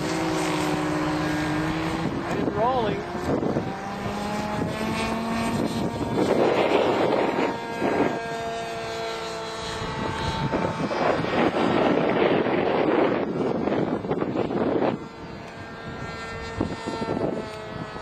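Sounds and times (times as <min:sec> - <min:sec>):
model plane motor droning: 0:00.0 - 0:18.0
wind gusts on microphone: 0:00.0 - 0:18.0.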